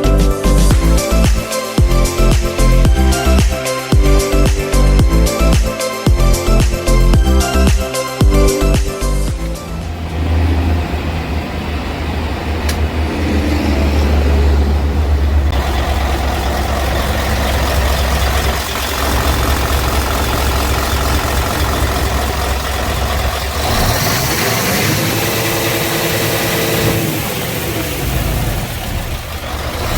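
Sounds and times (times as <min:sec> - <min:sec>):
diesel truck engine rumbling: 0:00.0 - 0:29.9.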